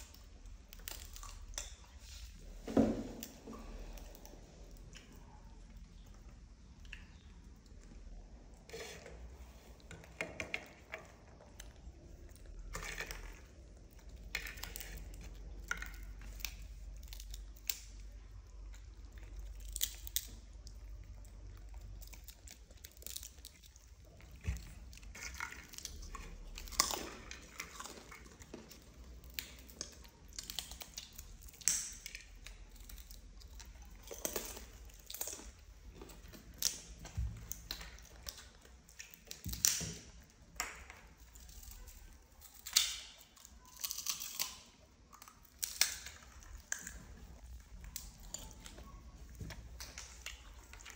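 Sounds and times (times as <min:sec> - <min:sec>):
monkeys chewing crunchy food: 0:00.0 - 0:50.9.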